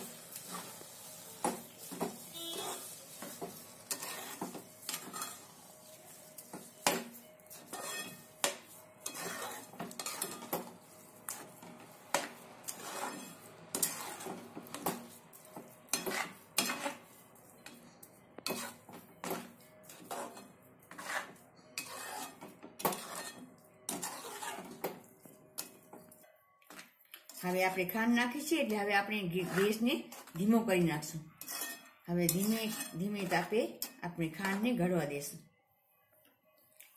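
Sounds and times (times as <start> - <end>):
metal spoon scraping a pan: 0.0 - 26.1, 26.7 - 34.9.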